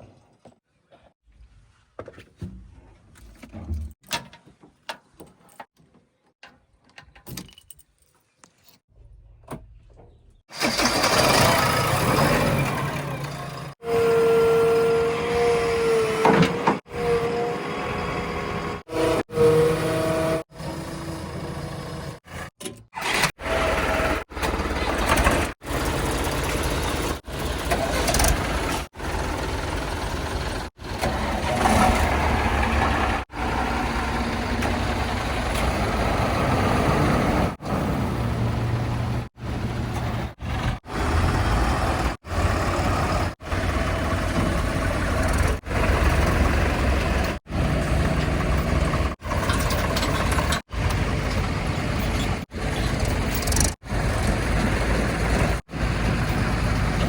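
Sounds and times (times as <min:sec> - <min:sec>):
backhoe loader and trucks working: 0:10.1 - 0:57.0
heavy diesel engines running: 0:10.5 - 0:57.0.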